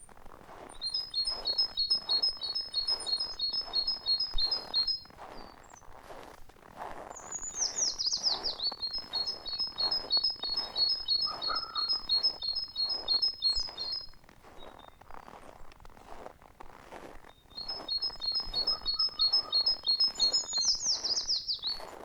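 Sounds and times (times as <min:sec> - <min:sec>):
footsteps in snow: 0:00.0 - 0:22.0
songbird singing: 0:00.7 - 0:06.0, 0:07.1 - 0:15.4, 0:17.2 - 0:22.0.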